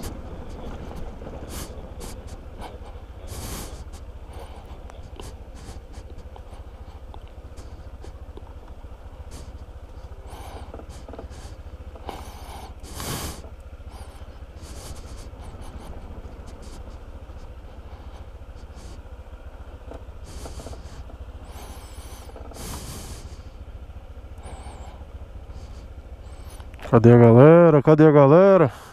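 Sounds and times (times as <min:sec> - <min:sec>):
vehicle rumble: 0:00.0 - 0:28.9.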